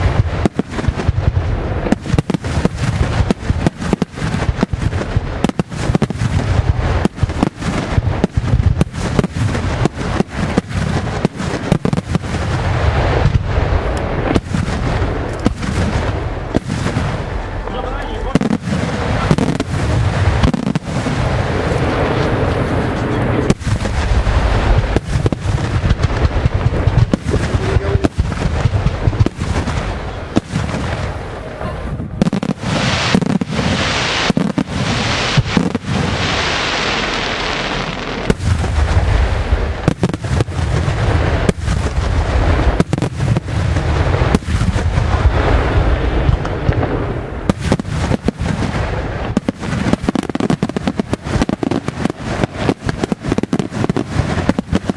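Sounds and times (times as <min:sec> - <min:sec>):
fireworks booming: 0:00.0 - 0:54.9
high hissing crackle: 0:00.0 - 0:54.9.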